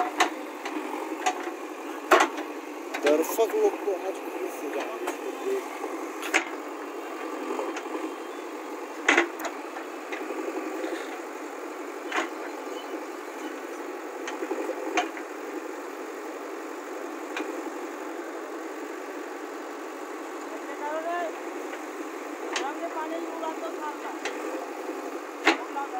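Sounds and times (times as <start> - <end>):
diesel engine running: 0.0 - 25.9.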